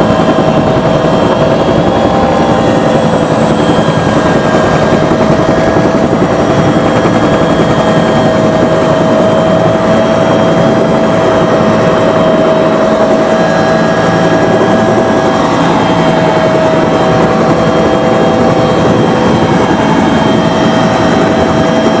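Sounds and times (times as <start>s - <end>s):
helicopter engines and rotor: 0.0s - 22.0s
high turbine whine: 0.0s - 22.0s.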